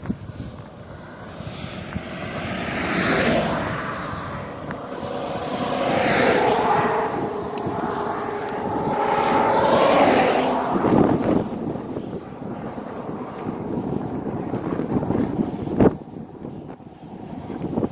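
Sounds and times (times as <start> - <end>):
vehicles passing: 0.0 - 17.9.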